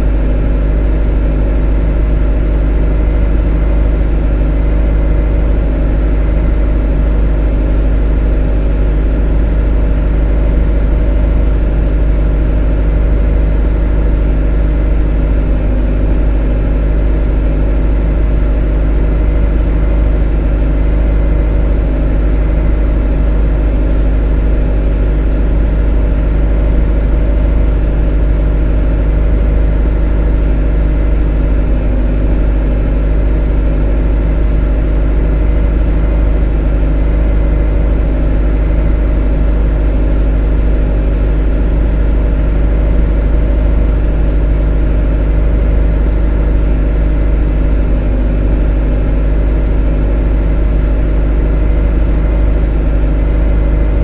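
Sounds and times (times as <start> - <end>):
motor humming: 0.0 - 54.0.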